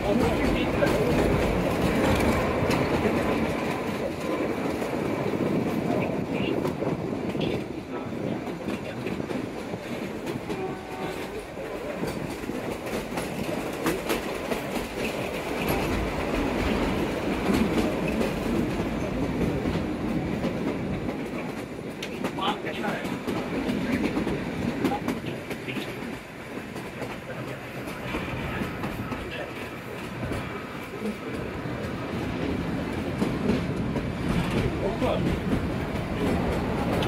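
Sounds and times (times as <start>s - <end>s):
rail joint clicks: 0.0s - 37.0s
train wheels rumbling: 0.0s - 37.0s.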